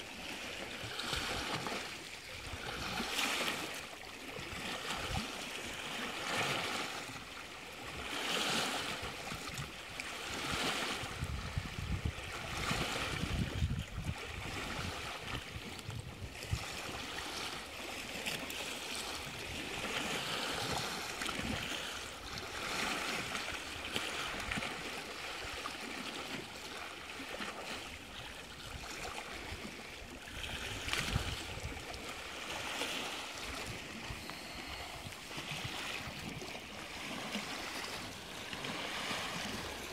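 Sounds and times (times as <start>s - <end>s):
small waves lapping on rocks: 0.0s - 39.9s.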